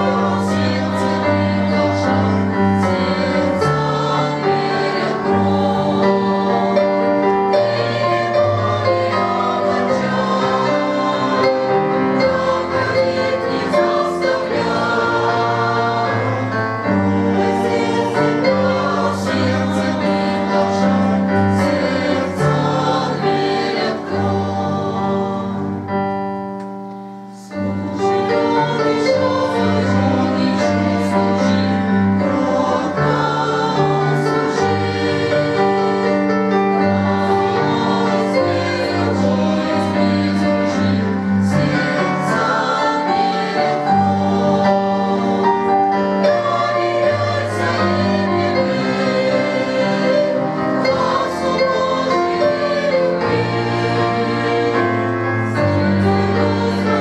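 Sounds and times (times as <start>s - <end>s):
choir singing a hymn: 0.0s - 26.3s, 27.3s - 57.0s.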